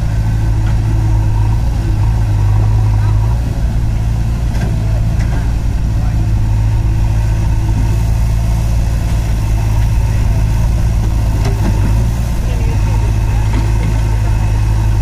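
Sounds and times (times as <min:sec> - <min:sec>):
diesel engines running steadily: 0:00.0 - 0:15.0.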